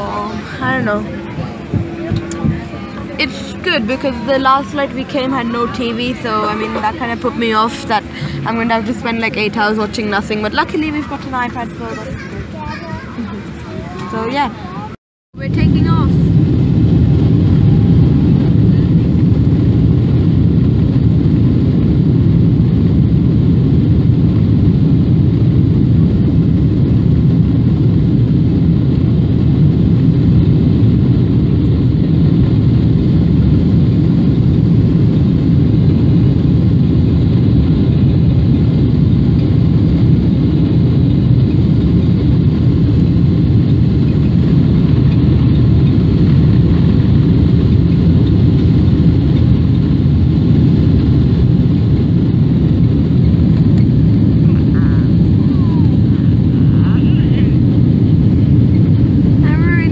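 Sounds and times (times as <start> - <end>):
jet engines at takeoff power: 0.0 - 59.9
runway rumble: 0.0 - 59.9.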